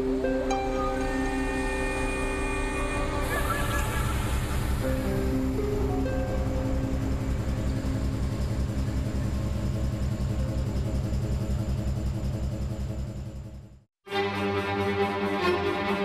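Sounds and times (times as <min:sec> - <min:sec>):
low pulsing engine-like rumble: 0:00.0 - 0:13.9.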